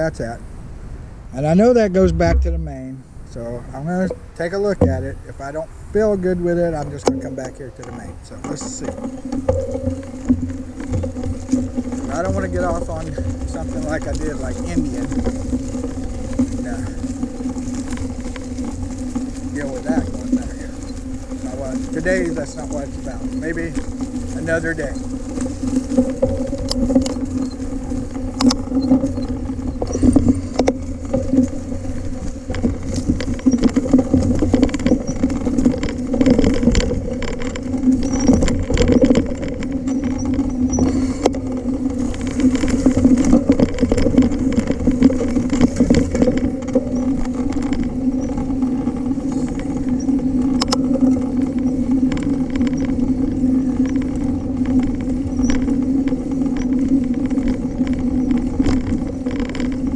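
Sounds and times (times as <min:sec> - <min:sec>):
bike rattling on rough ground: 0:00.0 - 0:00.5, 0:01.2 - 0:59.9
mountain bike hum: 0:00.0 - 0:59.9.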